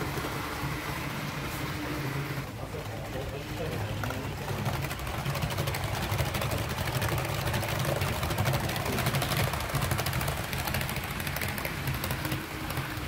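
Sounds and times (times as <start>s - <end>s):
model train wheels clicking on track: 0.0s - 13.0s.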